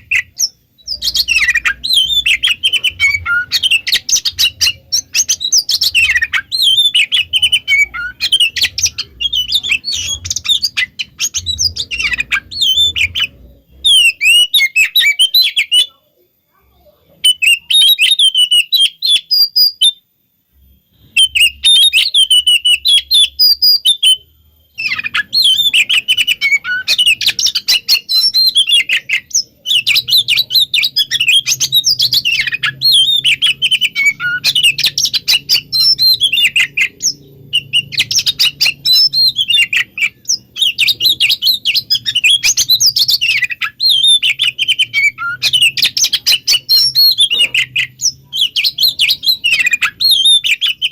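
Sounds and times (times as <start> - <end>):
magpie-robin chattering song: 0.0 - 16.0, 21.1 - 24.2, 24.8 - 50.9
faint low hum: 0.0 - 50.9.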